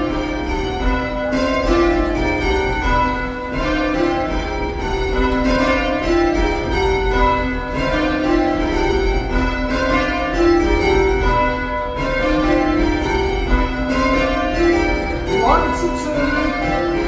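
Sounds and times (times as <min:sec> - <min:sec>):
church bells change ringing: 0:00.0 - 0:17.0.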